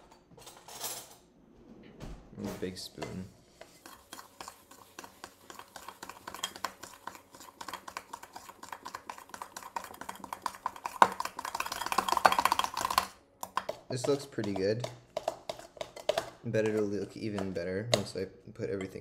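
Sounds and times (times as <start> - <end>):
spoon stirring in ceramic bowl: 3.0 - 19.0.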